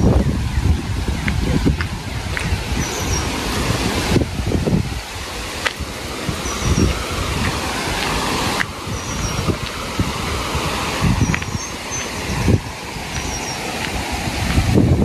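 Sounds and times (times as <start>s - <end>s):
steady rushing noise: 0.0s - 15.0s
wind buffeting microphone: 0.0s - 15.0s.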